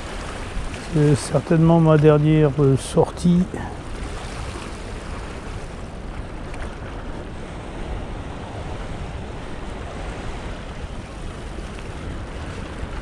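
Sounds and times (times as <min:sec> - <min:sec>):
surf and river water rushing: 0:00.0 - 0:13.0
wind rumble on microphone: 0:00.0 - 0:13.0.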